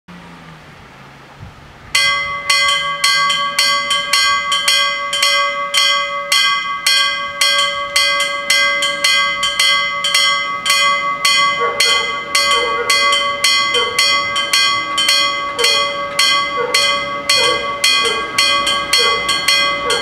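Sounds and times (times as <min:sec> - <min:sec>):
electric warning bells ringing: 0:01.9 - 0:20.0.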